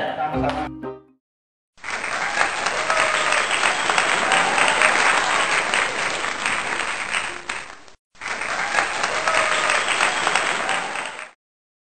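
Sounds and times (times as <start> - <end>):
crowd clapping and cheering: 1.8 - 11.4.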